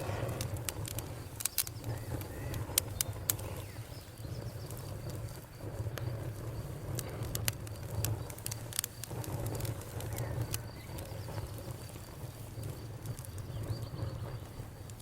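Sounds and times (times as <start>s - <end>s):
birds calling faintly: 0.0s - 15.0s
campfire crackling and popping: 0.0s - 15.0s.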